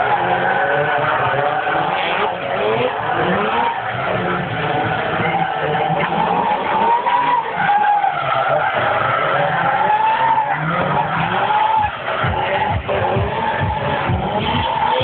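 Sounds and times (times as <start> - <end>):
car engine running hard: 0.0 - 15.0
tyres squealing: 0.0 - 15.0.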